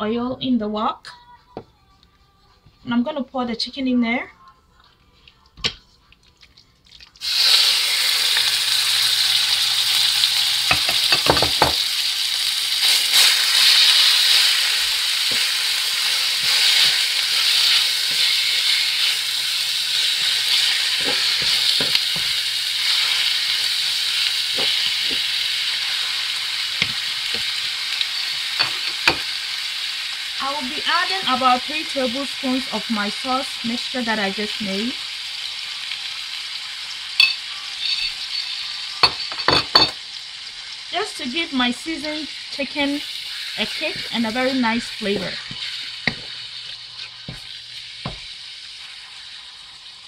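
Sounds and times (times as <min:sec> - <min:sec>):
chicken sizzling in hot oil: 0:07.0 - 0:50.0.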